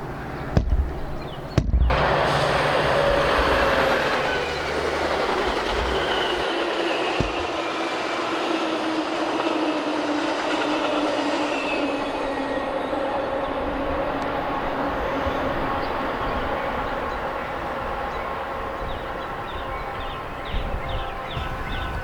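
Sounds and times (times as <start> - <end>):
train wheels rolling on rail: 0.0 - 22.0
high wheel squeal: 1.9 - 22.0.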